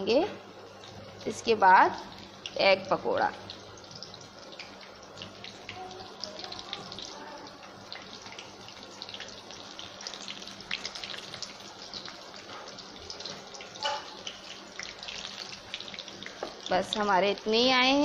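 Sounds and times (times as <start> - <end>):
batter deep-frying in oil: 0.0 - 18.0.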